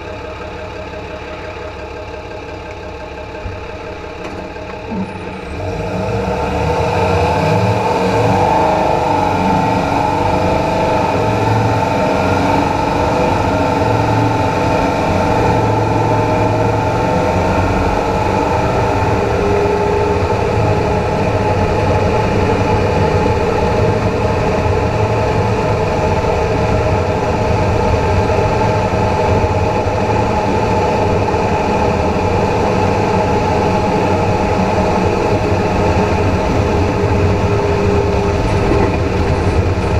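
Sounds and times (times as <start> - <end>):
vehicle road rumble with whine: 0.0 - 39.9.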